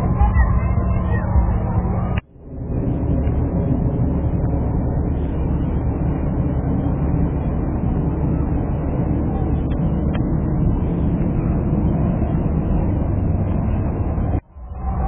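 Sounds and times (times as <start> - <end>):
aircraft engines droning: 0.0 - 15.0.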